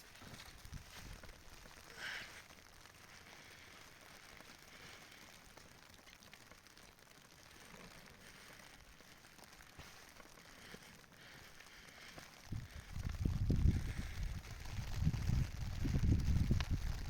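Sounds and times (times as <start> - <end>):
faint steady hiss: 0.0 - 16.8
faint ticks: 0.0 - 17.0.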